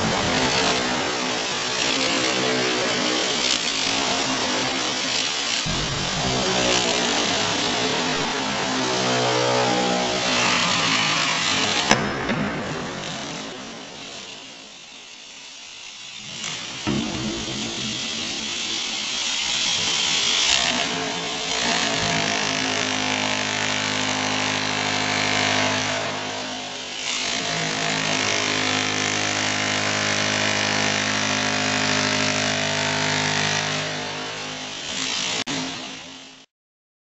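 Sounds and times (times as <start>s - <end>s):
demolition hammer chiselling concrete: 0.0s - 36.5s.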